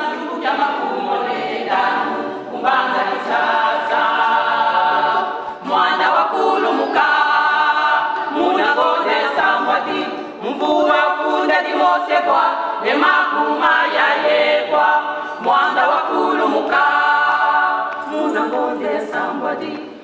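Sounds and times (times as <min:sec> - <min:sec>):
women's choir singing a cappella: 0:00.0 - 0:20.0.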